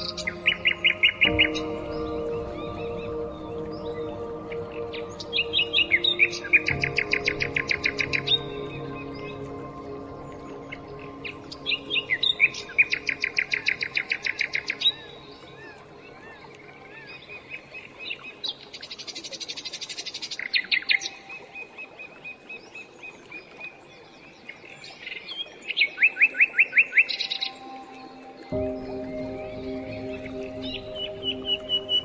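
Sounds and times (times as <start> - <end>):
songbird singing trills: 0.0 - 23.0, 25.0 - 32.0.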